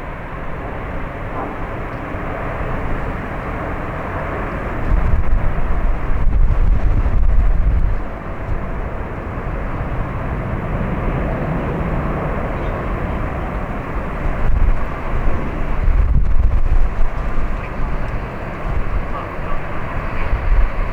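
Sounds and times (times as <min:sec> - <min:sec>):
jet engines roaring on takeoff: 0:00.0 - 0:20.9
wind buffeting microphone: 0:00.0 - 0:20.9.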